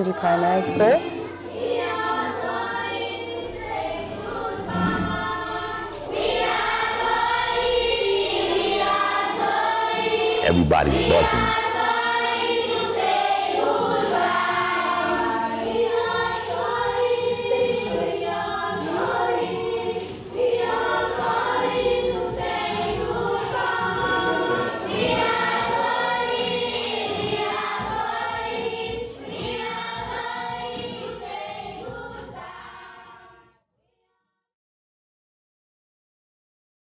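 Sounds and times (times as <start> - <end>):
choir singing: 0.0 - 33.4.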